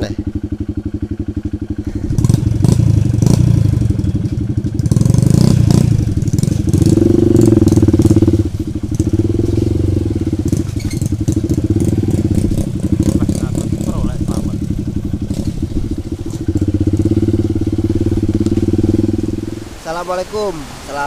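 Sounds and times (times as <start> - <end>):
bike knocking and rattling: 0.0 - 19.4
dirt bike engine revving: 0.0 - 20.1.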